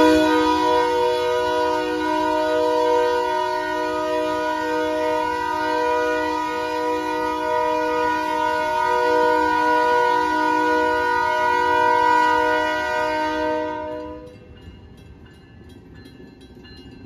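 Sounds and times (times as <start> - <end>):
locomotive air horn blowing: 0.0 - 14.4.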